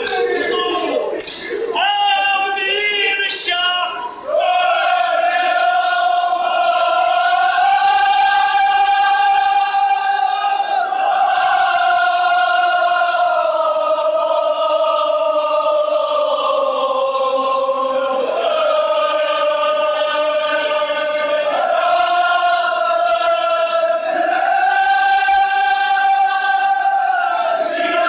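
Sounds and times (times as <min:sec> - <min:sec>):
group chanting in unison: 0:04.0 - 0:28.0.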